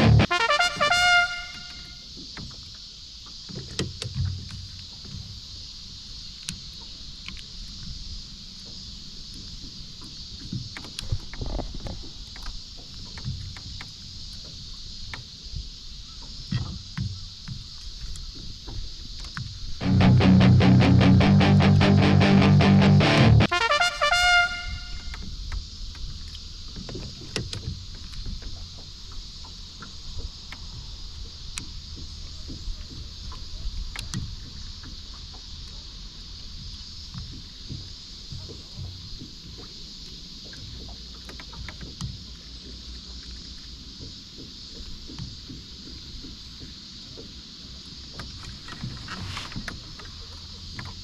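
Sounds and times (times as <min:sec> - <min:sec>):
rumble and hiss of water and wind: 0:00.0 - 0:20.8, 0:24.4 - 0:51.0
light knocks and clicks from boat: 0:01.1 - 0:19.8, 0:24.3 - 0:51.0.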